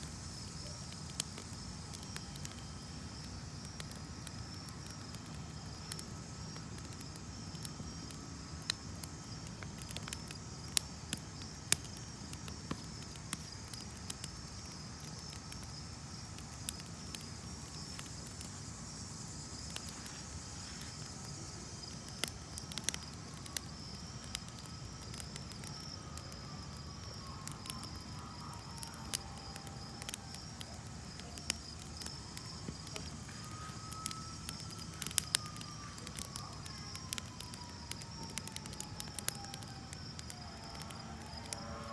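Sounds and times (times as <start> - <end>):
campfire crackling and popping: 0.0 - 41.9
crickets chirping: 0.0 - 41.9.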